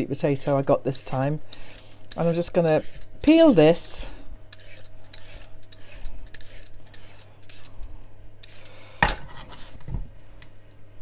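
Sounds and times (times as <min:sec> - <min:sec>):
peeler scraping sweet potato: 0:00.0 - 0:09.9.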